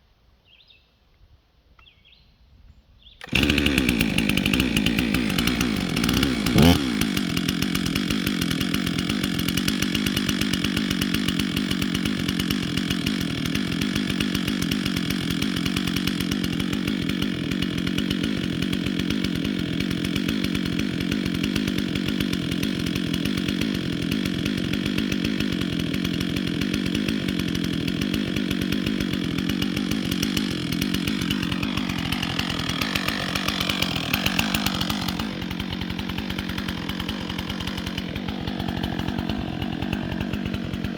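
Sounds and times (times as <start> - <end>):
chainsaw running: 3.2 - 40.9.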